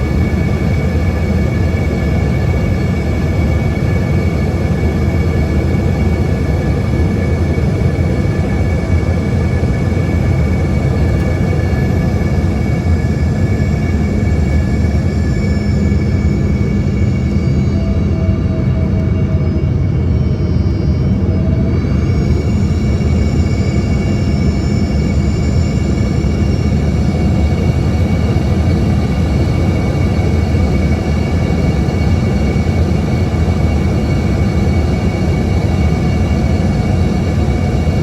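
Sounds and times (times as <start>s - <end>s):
airplane cabin rumble: 0.0s - 38.0s
jet engine whine: 0.0s - 38.0s.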